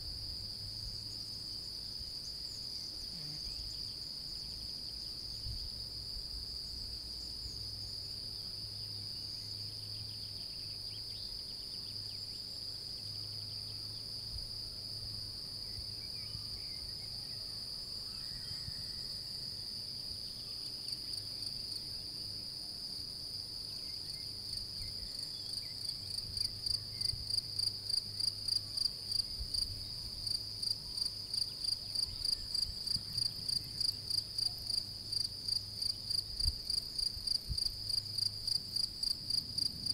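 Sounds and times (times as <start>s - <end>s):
close cricket chirping: 0.0s - 39.9s
crickets trilling in chorus: 0.3s - 39.9s.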